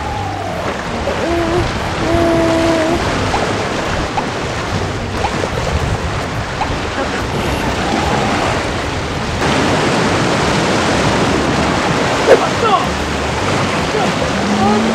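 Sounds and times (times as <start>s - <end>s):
sea surf washing against rocks: 0.0s - 14.9s
wind buffeting microphone: 0.0s - 14.9s.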